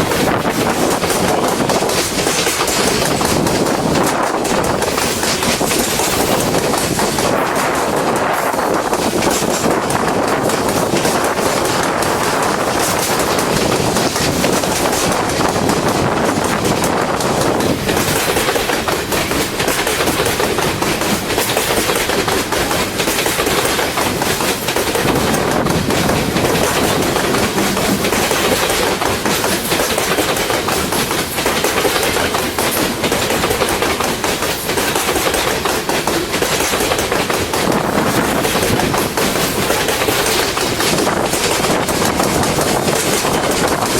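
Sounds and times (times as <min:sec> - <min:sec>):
train wheels clacking over rail joints: 0:00.0 - 0:43.9.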